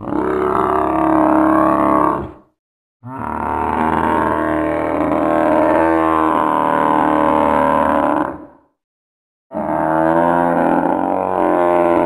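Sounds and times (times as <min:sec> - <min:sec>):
deep dinosaur roar: 0:00.0 - 0:08.8, 0:09.5 - 0:12.0.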